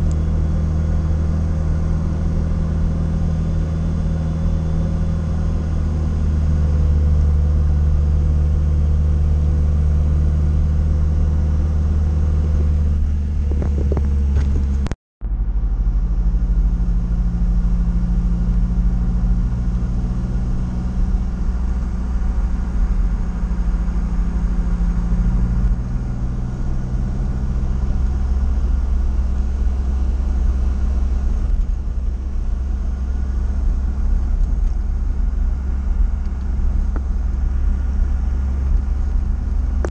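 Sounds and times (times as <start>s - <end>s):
road rumble: 0.0s - 39.9s
van engine running: 0.0s - 39.9s.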